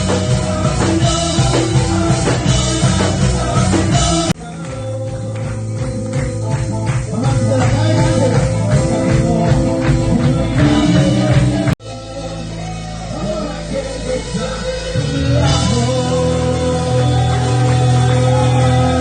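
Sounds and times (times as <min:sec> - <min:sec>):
worship band music with singing: 0:00.0 - 0:19.0.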